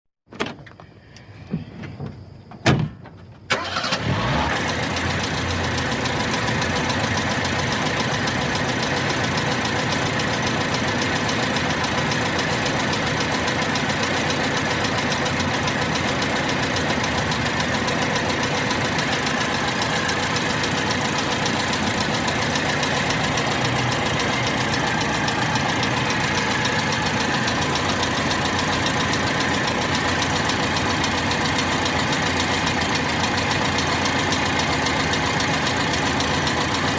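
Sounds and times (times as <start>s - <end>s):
car engine starting and idling: 3.5s - 36.9s.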